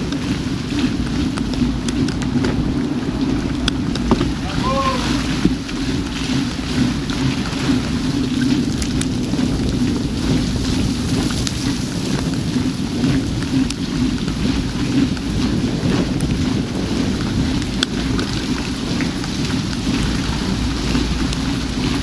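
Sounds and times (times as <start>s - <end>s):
falling rain: 0.0s - 22.0s
raindrops ticking on camera: 0.0s - 22.0s
tyre spray on wet street: 0.0s - 22.0s
wind on camera: 0.0s - 22.0s.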